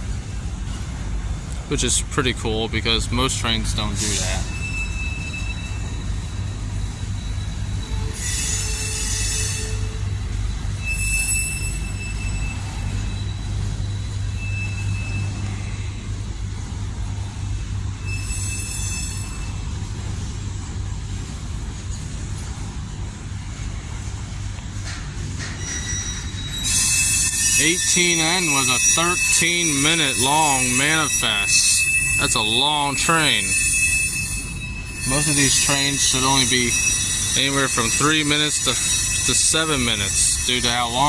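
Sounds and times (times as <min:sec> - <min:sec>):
train wheels squealing on rails: 0:00.0 - 0:01.8, 0:03.2 - 0:41.0
freight train rumbling past: 0:00.0 - 0:41.0.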